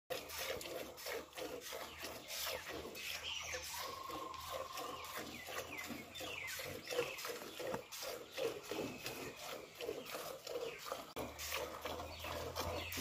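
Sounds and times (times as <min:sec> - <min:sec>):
milk squirting into metal pail: 0:00.1 - 0:13.0.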